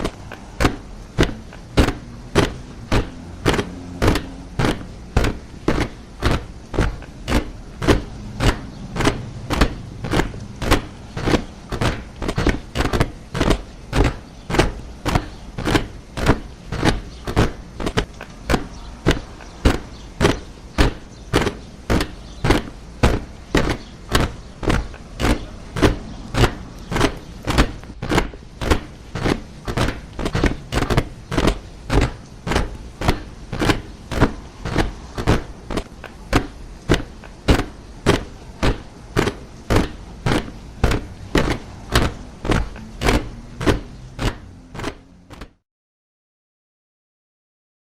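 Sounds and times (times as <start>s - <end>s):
soldiers marching boots: 0.0s - 45.6s.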